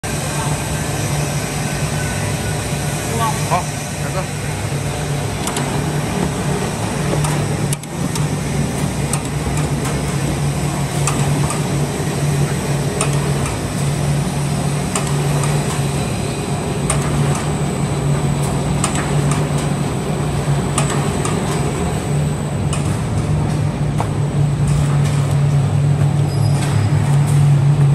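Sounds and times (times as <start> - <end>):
machine pulsing hum: 0.0 - 27.9.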